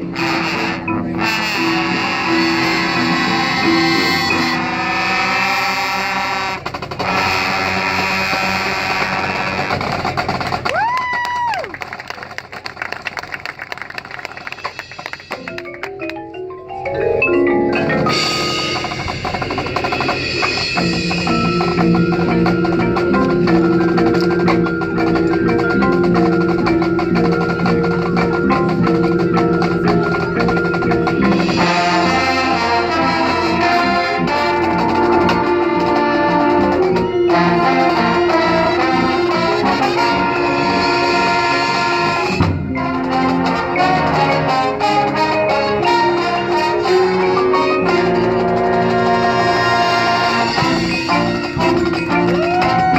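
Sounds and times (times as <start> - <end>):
marching band brass and drums: 0.0 - 52.9
marimba rising run: 0.0 - 52.9.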